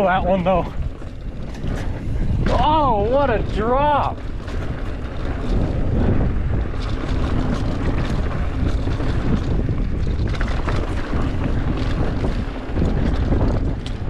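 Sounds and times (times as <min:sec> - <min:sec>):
bike clicks and rattles: 0:00.0 - 0:14.0
bike rolling over dirt and rock: 0:00.0 - 0:14.0
wind noise on microphone: 0:00.0 - 0:14.0.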